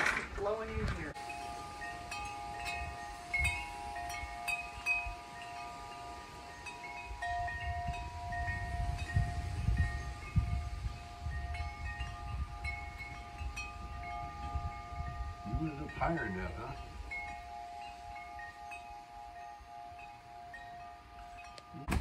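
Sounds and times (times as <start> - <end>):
wind rumbling on microphone: 0.0 - 22.0
wind chimes ringing: 0.4 - 22.0.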